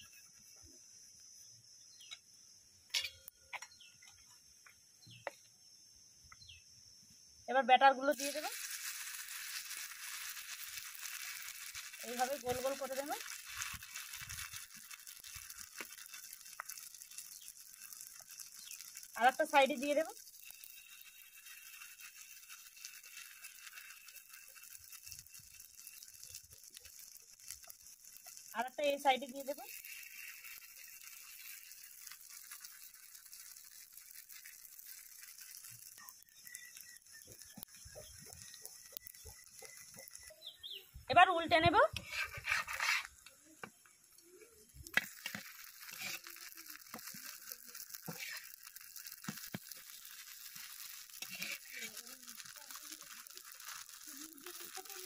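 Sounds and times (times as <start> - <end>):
oil sizzling and crackling: 0.0 - 55.0.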